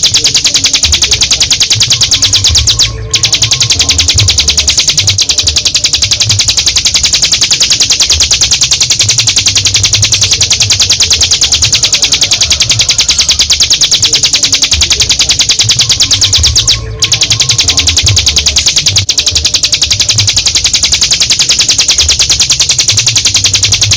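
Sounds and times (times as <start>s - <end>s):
bird drilling trill: 0.0s - 23.9s.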